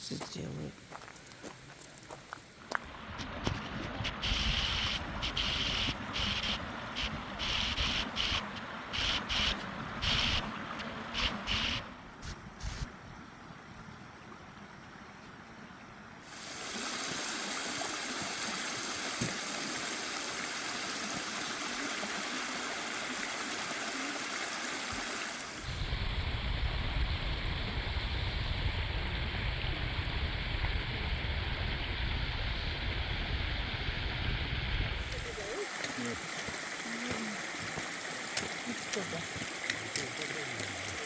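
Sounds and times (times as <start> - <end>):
spring water rushing: 2.7 - 12.2, 16.3 - 41.0.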